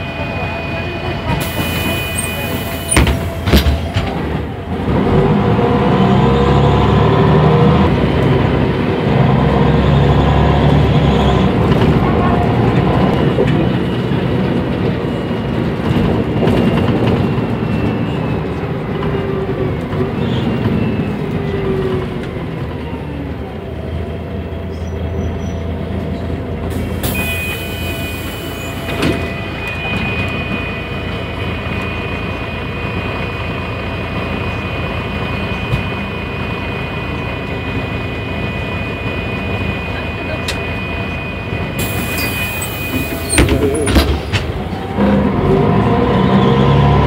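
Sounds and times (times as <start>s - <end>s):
bus diesel engine drone: 0.0s - 47.0s.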